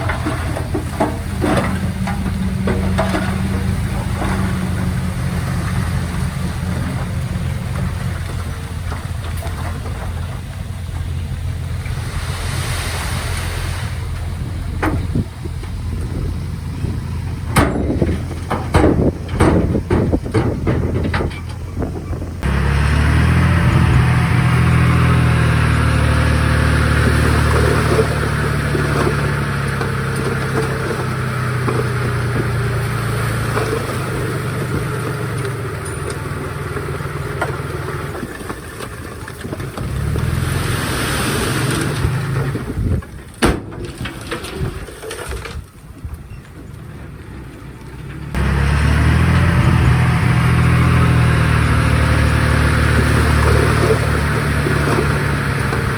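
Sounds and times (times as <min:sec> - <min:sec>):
bulldozer diesel engine running: 0:00.0 - 0:43.4, 0:46.1 - 0:55.9.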